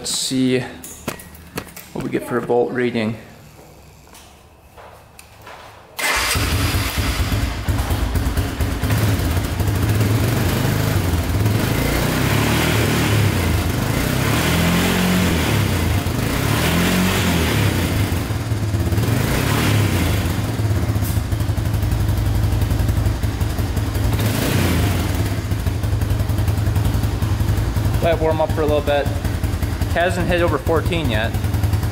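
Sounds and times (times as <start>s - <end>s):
atv engine running: 6.0s - 31.9s.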